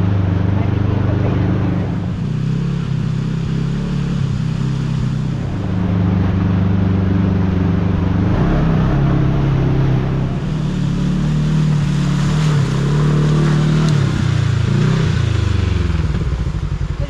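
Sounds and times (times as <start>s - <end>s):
twin engine running steadily: 0.0s - 17.0s.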